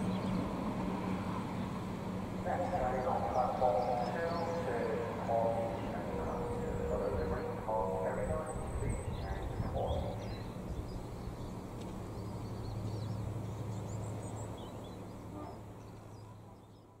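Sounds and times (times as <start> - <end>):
low steady drone: 0.0 - 17.0
small birds chirping: 0.0 - 17.0.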